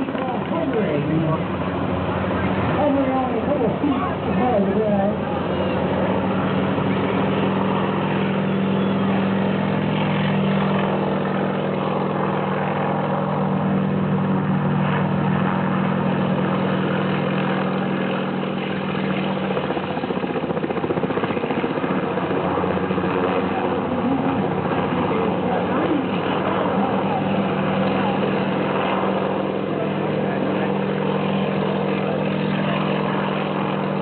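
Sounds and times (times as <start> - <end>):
helicopter engine hum: 0.0 - 34.0
helicopter rotor beat: 0.0 - 34.0.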